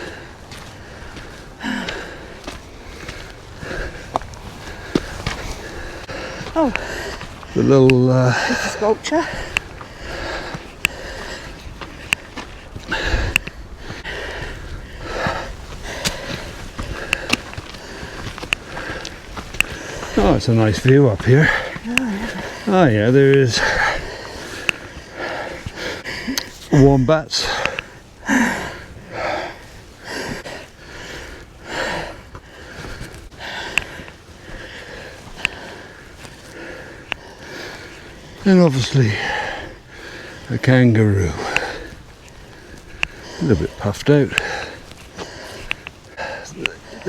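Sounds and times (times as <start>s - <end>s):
person breathing hard: 0.0s - 47.0s.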